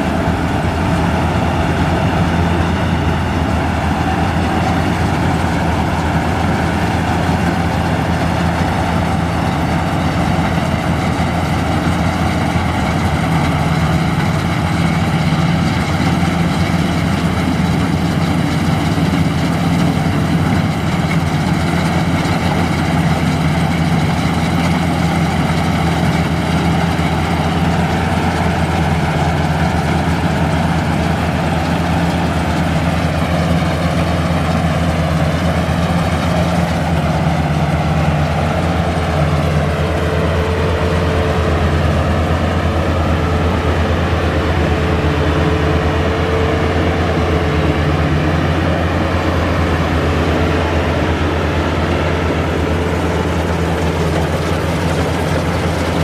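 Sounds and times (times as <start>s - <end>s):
combine harvester engine droning: 0.0s - 56.0s.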